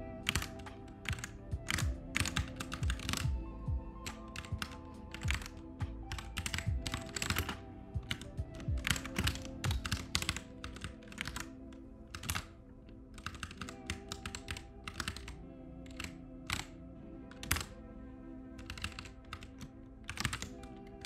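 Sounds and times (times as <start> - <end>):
soft lofi background music: 0.0 - 21.0
computer keyboard keystrokes: 0.2 - 17.8, 18.6 - 21.0.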